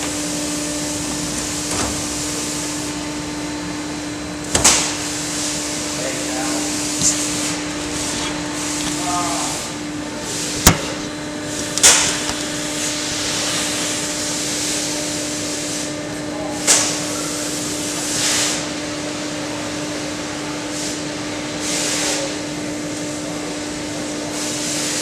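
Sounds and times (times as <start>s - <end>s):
machine humming and hissing: 0.0s - 25.0s.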